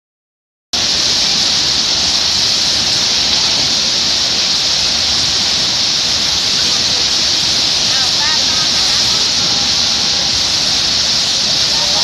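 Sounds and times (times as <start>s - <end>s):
waterfall rushing: 0.8s - 12.0s.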